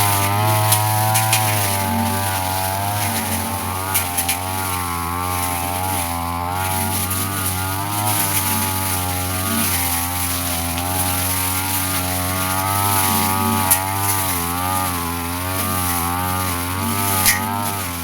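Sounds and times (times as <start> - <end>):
brush cutter engine: 0.0 - 18.0.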